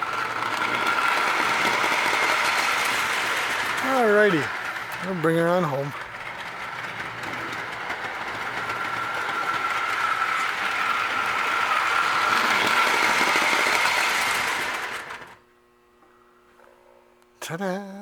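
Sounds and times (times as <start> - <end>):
toy train motor whine: 0.0 - 15.4.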